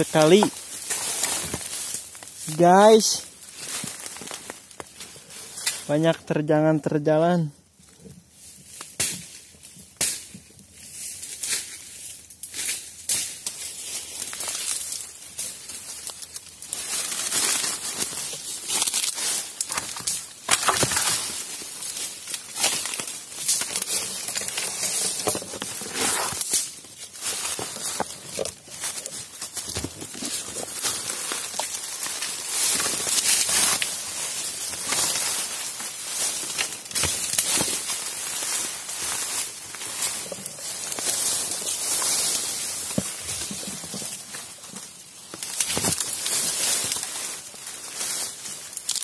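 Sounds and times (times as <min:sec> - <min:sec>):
twigs snapping: 0:00.0 - 0:02.6, 0:03.2 - 0:05.9, 0:12.4 - 0:49.0
footsteps crunching through leaf litter: 0:00.0 - 0:06.1, 0:08.2 - 0:49.0
dry leaves rustling underfoot: 0:00.0 - 0:49.0.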